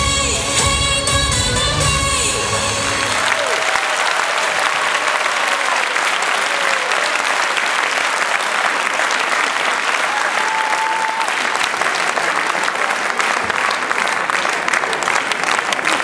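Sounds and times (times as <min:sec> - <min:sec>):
audience applauding: 0:02.6 - 0:16.0.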